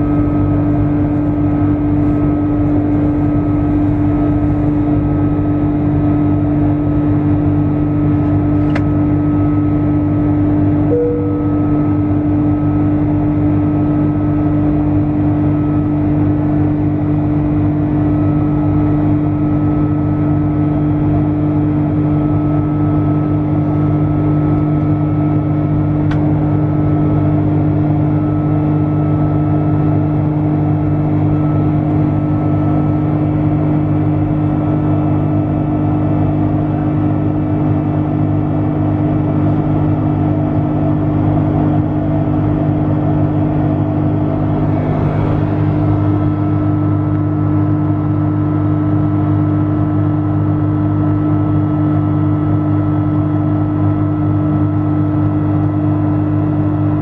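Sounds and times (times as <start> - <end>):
steady humming tones: 0.0 - 50.6
aircraft cabin drone: 0.0 - 57.0.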